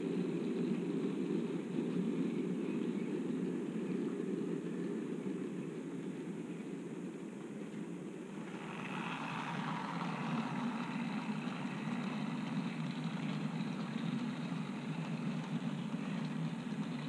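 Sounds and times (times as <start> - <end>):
model train running on track: 0.0 - 17.0.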